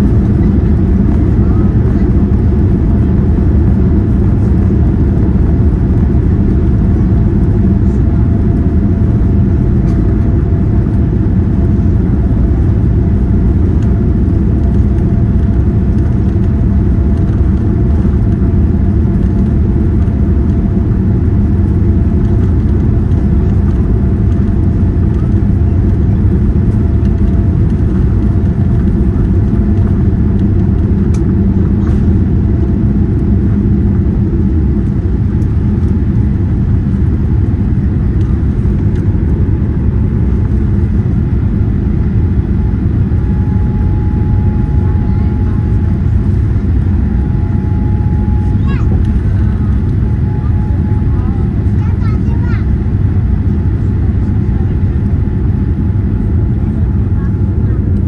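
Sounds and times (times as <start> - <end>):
faint constant hum: 0.0 - 58.0
jet engines rumbling: 0.0 - 58.0.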